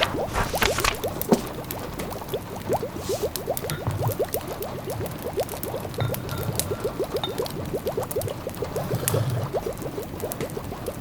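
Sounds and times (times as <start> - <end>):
pot of food bubbling: 0.0 - 11.0
wood fire crackling: 0.0 - 11.0.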